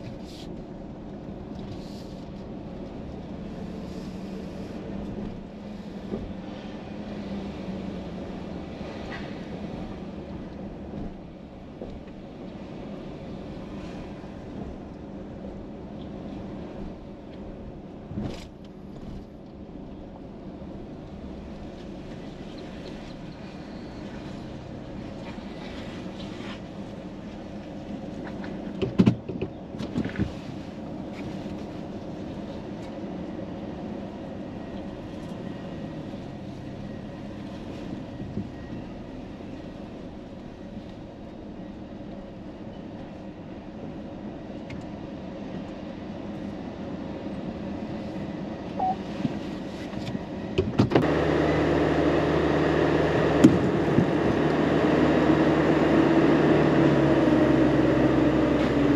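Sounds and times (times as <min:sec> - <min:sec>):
engine hum with steady tones: 0:00.0 - 0:58.9
vehicle cab rumble: 0:00.0 - 0:58.9.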